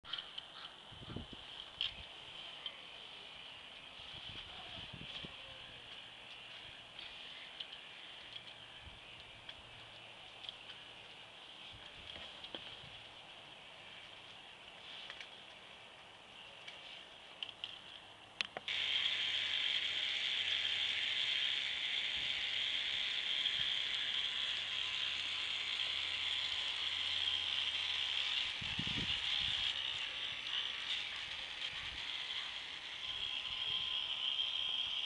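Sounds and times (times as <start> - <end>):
electric motors whirring: 0.1 - 35.0.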